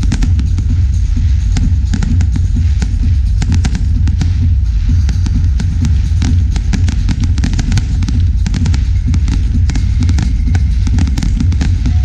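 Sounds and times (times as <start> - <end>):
deep low rumble: 0.0 - 12.0
fireworks crackling and banging: 0.0 - 12.0.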